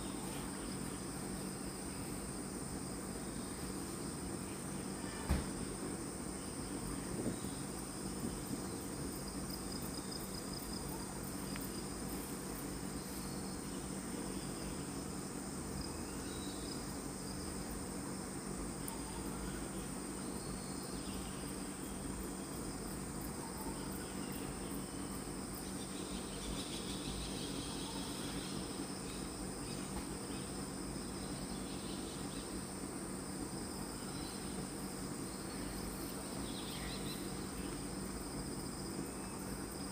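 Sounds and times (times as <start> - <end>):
forest insects trilling: 0.0 - 39.9
low background noise: 0.0 - 39.9.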